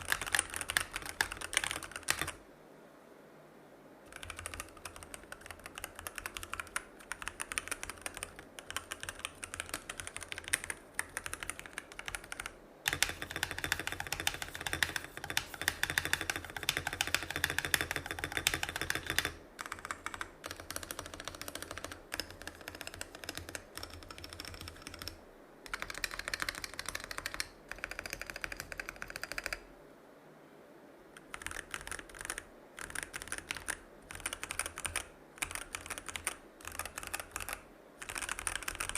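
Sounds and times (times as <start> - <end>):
mechanical keyboard typing: 0.0 - 2.4, 4.1 - 29.6, 31.2 - 38.9.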